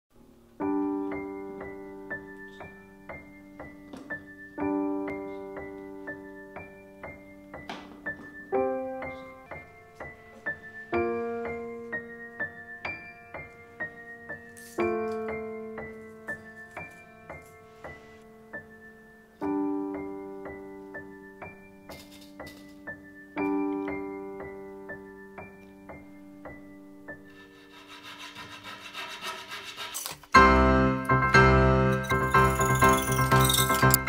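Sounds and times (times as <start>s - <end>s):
slow solo piano piece: 0.2s - 27.6s.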